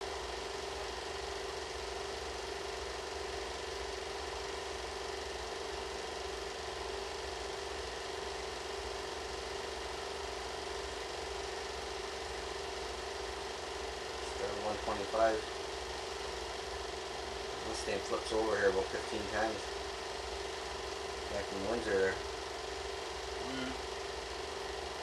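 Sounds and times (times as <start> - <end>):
mechanical whirring hum: 0.0 - 25.0.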